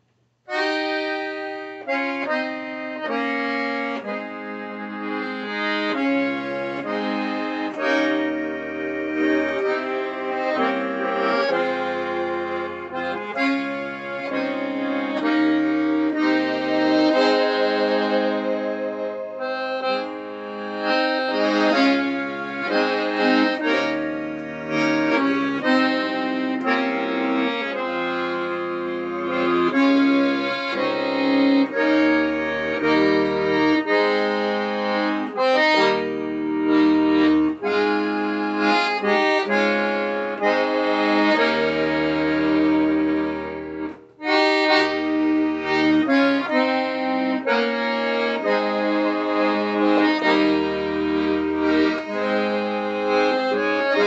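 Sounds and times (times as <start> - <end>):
accordions playing: 0.0 - 54.0
deep accordion bass notes: 0.5 - 54.0.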